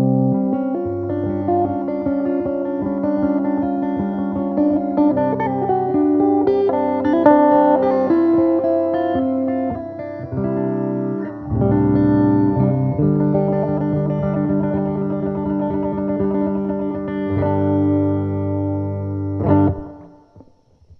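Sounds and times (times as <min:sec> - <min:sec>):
guitar plucking chords: 0:00.0 - 0:20.6.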